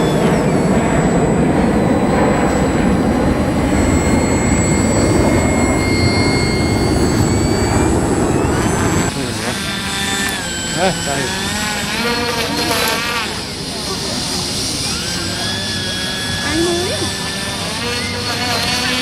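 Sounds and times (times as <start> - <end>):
model airplane motor whining: 0.0 - 19.0.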